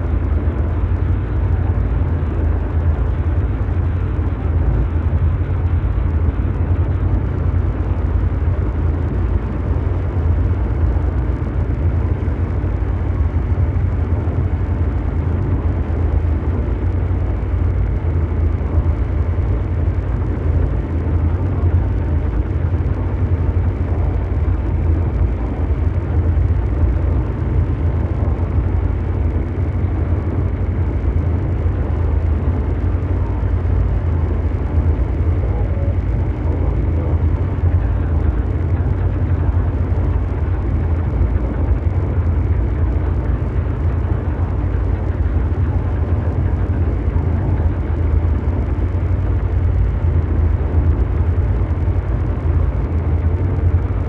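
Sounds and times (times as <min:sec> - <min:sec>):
deep mechanical drone: 0:00.0 - 0:54.0.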